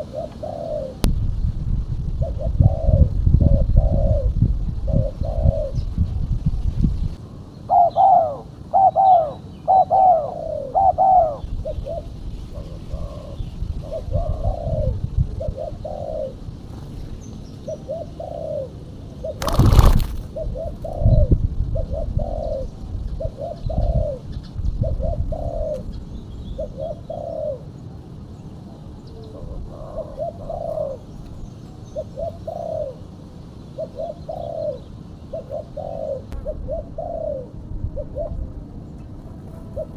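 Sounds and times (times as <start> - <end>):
dove cooing: 0.0 - 1.1, 2.2 - 6.2, 7.7 - 17.0, 17.6 - 28.1, 28.7 - 39.9.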